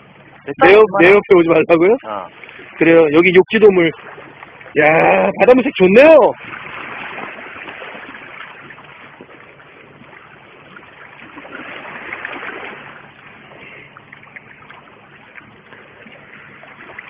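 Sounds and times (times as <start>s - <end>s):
waves lapping on rocky shore: 1.9s - 17.0s.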